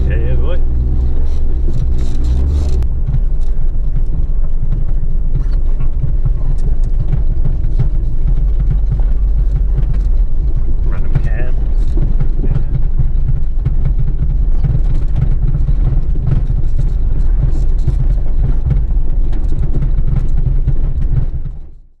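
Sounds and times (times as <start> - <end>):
stones clicking under wheels: 0.0 - 21.8
vehicle engine and tyres rumbling: 0.0 - 22.0.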